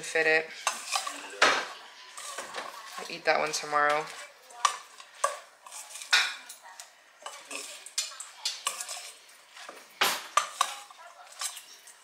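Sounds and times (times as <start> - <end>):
utensil scraping metal bowl: 0.1 - 12.0.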